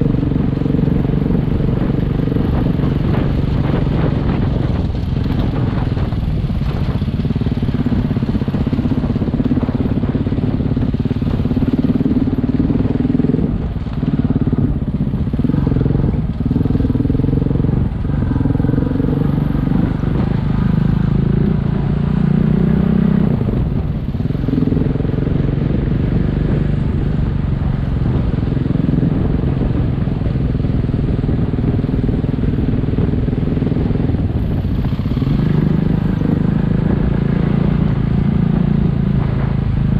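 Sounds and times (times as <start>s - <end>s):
motorcycle engine revving: 0.0s - 39.9s
road and wind noise: 0.0s - 39.9s.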